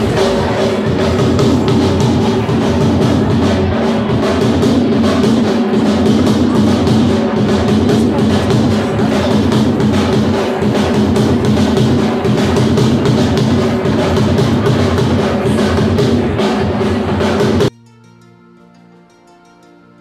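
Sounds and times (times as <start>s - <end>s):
drums beating festive rhythm: 0.0s - 17.8s
music with held notes: 0.0s - 20.0s.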